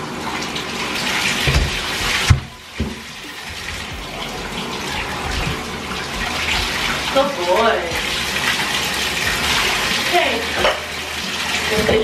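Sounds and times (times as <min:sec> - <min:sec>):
tap water running into bathtub: 0:00.0 - 0:12.0.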